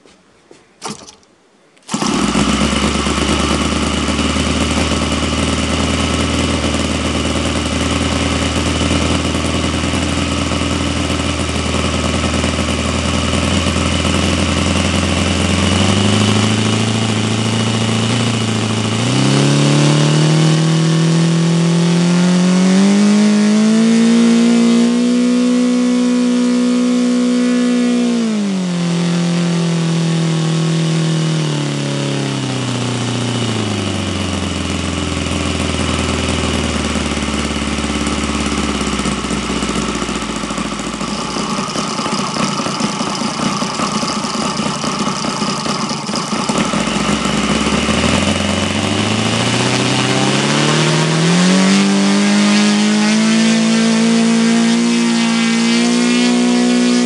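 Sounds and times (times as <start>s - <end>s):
model engine running: 1.8s - 57.0s.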